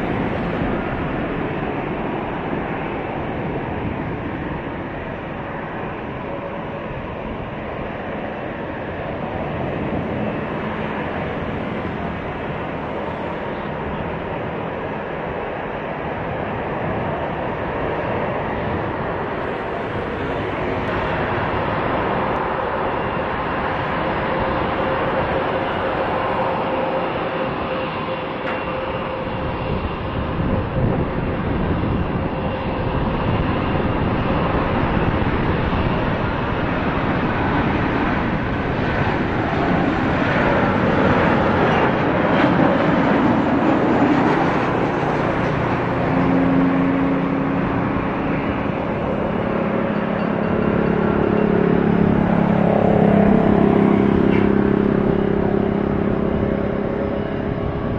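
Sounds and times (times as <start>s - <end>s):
jet engines roaring with whine: 0.0s - 57.9s.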